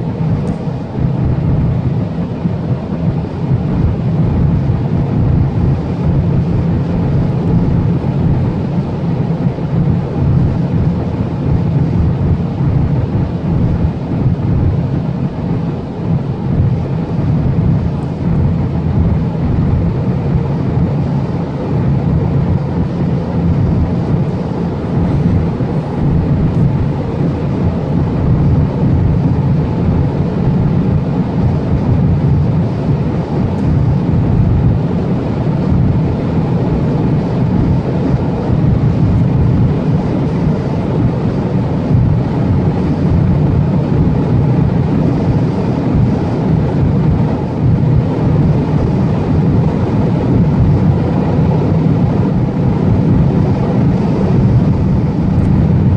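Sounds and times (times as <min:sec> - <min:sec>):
car cabin drone at speed: 0:00.0 - 0:55.9.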